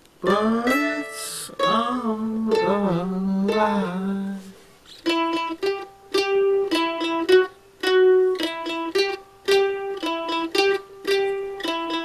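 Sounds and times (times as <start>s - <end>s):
mandolin picked notes: 0.2s - 12.0s.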